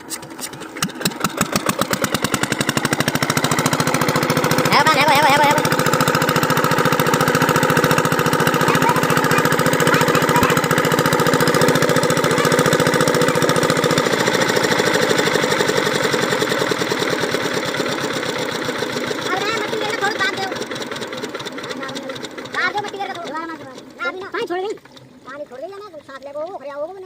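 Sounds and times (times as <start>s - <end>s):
diesel engine knocking: 0.1s - 27.0s.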